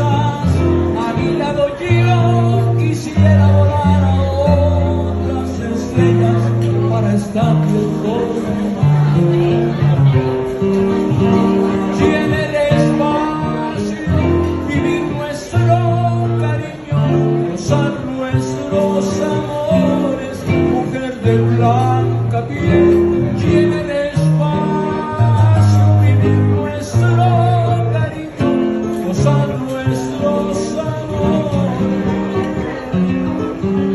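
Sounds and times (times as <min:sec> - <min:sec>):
acoustic guitar ballad: 0:00.0 - 0:33.9.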